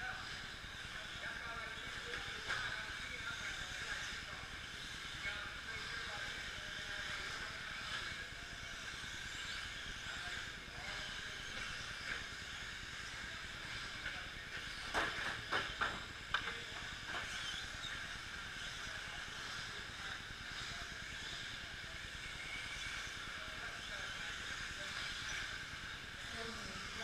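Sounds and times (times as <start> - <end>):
rc truck motors whining: 0.0 - 27.0.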